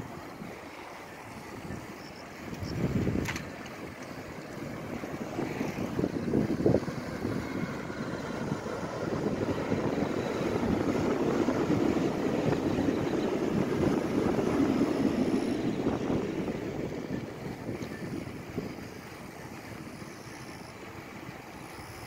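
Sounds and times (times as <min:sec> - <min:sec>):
electric train rumbling past: 0:00.0 - 0:22.0
faint high whine: 0:00.0 - 0:22.0
wind buffeting microphone: 0:00.0 - 0:22.0.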